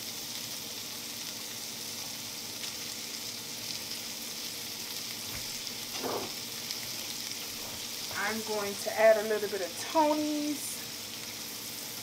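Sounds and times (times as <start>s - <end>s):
beef and onions sizzling: 0.0s - 12.0s.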